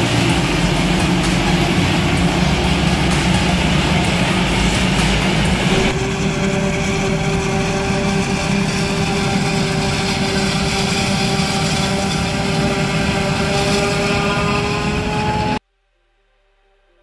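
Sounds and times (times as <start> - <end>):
constant whine: 0.0 - 15.6
heavy machine engine running: 0.0 - 15.6.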